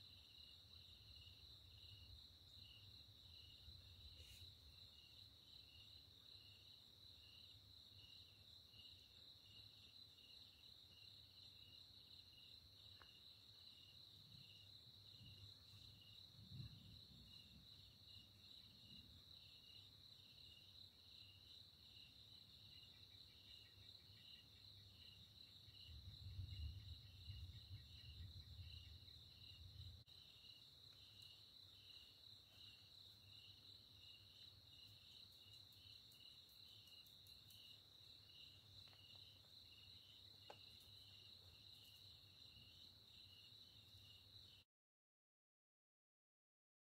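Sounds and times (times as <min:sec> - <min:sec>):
crickets trilling: 0:00.2 - 0:44.6.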